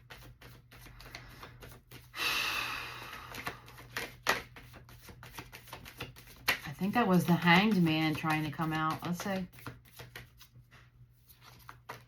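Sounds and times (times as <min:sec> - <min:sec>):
cards being shuffled: 0:00.0 - 0:02.1, 0:03.0 - 0:12.0.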